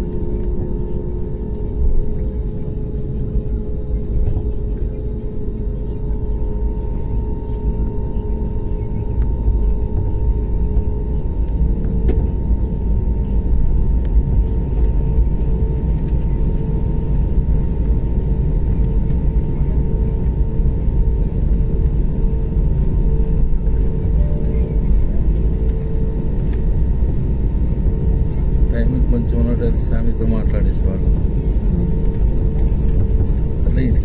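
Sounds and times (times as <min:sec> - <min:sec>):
constant hum: 0:00.0 - 0:34.0
jet cabin engine rumble: 0:00.0 - 0:34.0.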